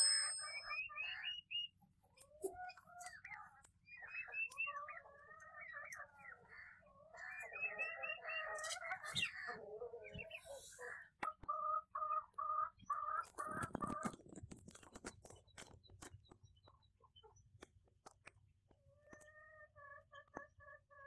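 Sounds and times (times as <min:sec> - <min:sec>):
chickens clucking: 0:00.0 - 0:17.4, 0:18.8 - 0:21.0.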